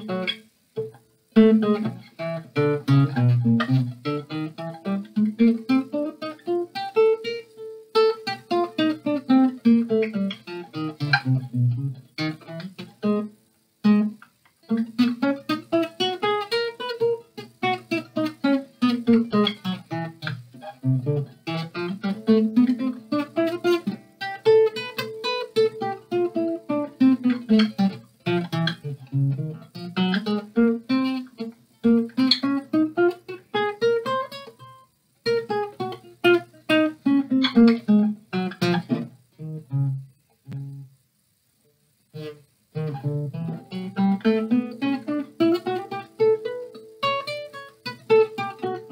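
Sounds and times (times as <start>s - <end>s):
classical guitar fingerstyle arpeggios: 0.0s - 40.9s, 42.2s - 48.9s.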